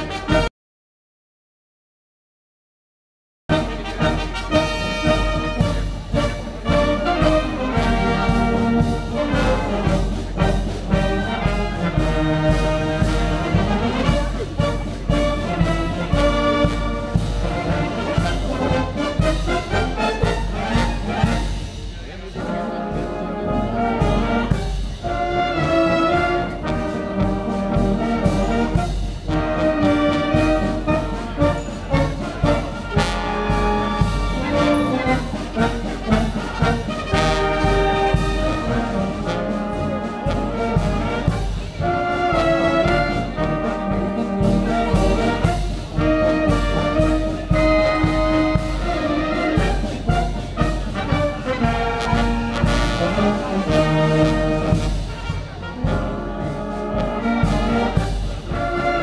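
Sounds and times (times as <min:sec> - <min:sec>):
wind band playing: 0:00.0 - 0:00.5, 0:03.5 - 0:59.0.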